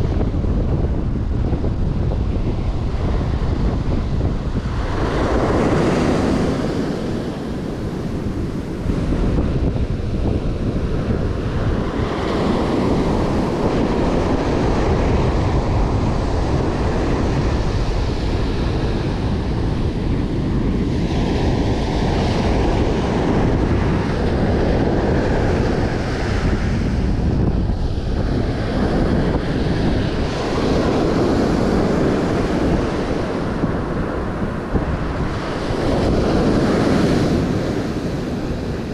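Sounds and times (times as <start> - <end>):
ocean surf breaking on beach: 0.0 - 38.9
wind buffeting microphone: 0.0 - 38.9.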